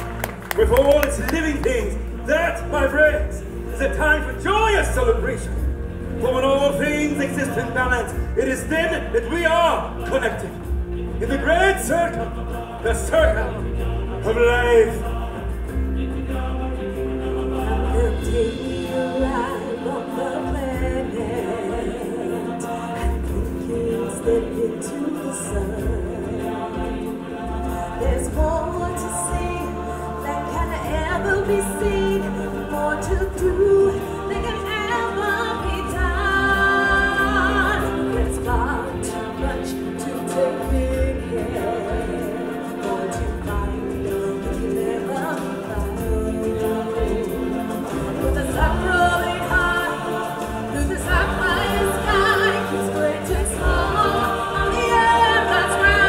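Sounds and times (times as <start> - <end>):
choir singing: 0.0 - 56.0
instrumental accompaniment: 0.0 - 56.0.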